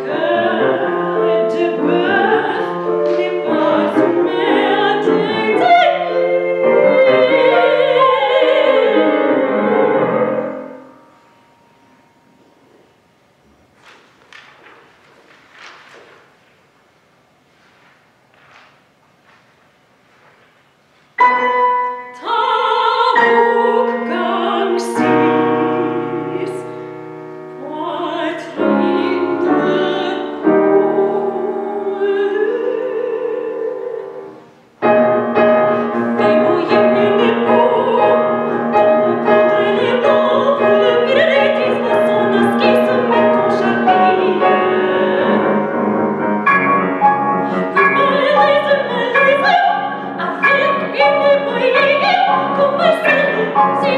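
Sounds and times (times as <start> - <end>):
soprano singing: 0.0 - 12.9, 21.2 - 53.9
grand piano accompaniment: 0.0 - 16.8, 17.7 - 53.9.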